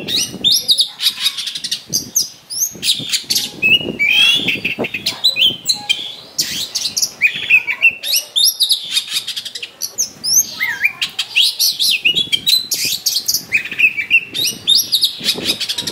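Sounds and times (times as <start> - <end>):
songbird singing varied whistles: 0.0 - 15.9.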